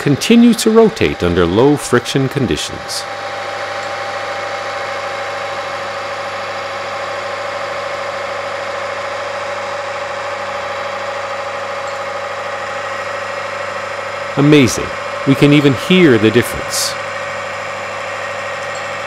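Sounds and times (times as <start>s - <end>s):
machine motor humming and whining: 0.0s - 19.0s.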